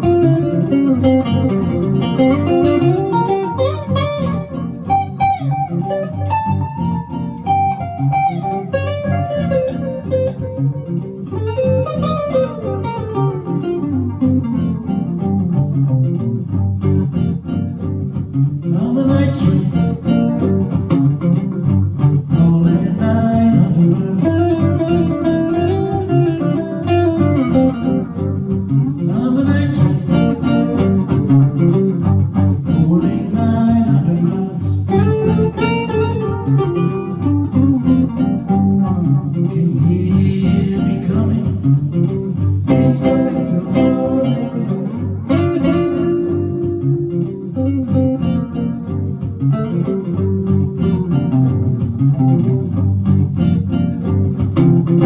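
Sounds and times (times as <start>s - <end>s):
blues electric guitar playing: 0.0s - 55.0s.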